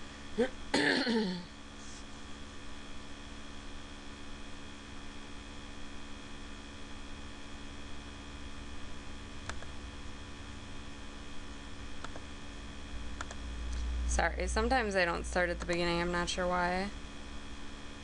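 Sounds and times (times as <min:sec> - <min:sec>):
laptop cooler fans humming: 0:00.0 - 0:18.0.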